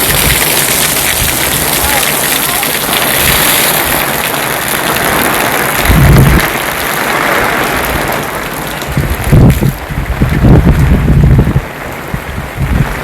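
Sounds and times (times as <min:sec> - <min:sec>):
heavy rain drumming on awning: 0:00.0 - 0:13.0.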